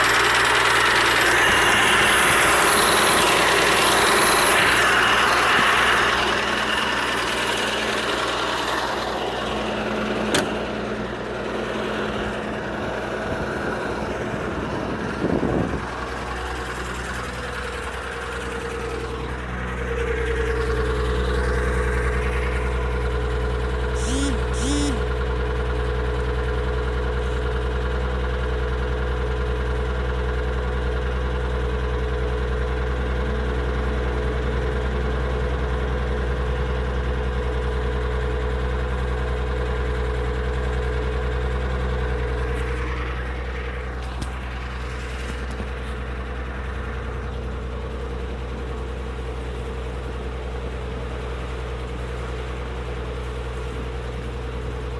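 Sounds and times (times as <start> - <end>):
car engine running: 0.0 - 54.9
steady tone over engine: 0.0 - 54.9.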